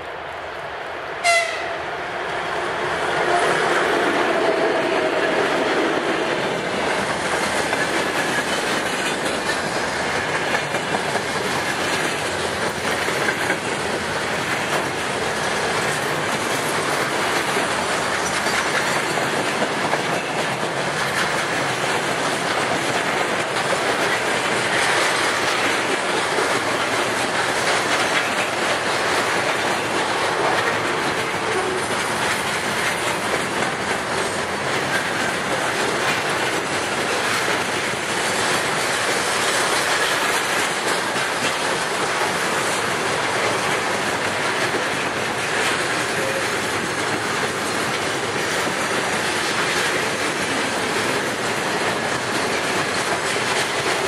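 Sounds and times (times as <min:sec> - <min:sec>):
freight train wheels clattering: 0:02.8 - 0:54.0.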